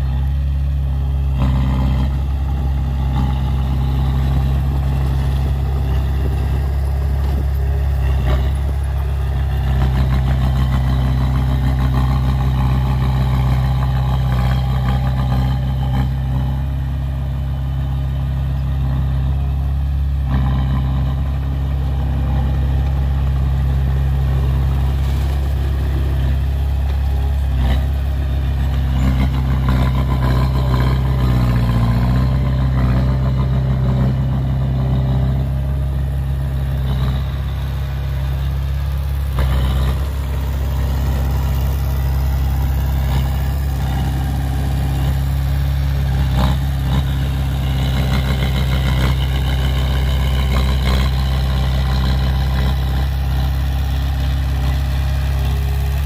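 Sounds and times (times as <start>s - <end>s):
bulldozer diesel engine drone: 0.0s - 56.0s.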